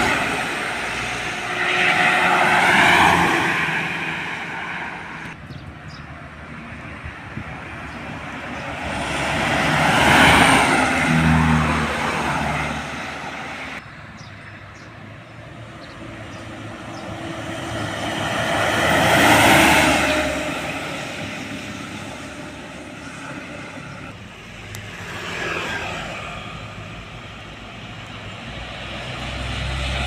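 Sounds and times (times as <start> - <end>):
heavy trucks passing: 0.0 - 30.0.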